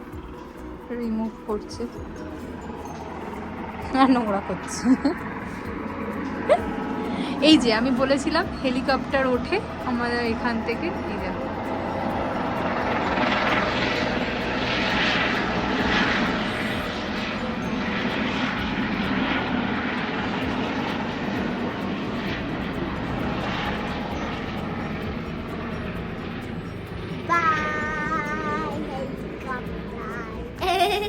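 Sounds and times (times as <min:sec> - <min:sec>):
helicopter flying over: 0:00.0 - 0:31.0.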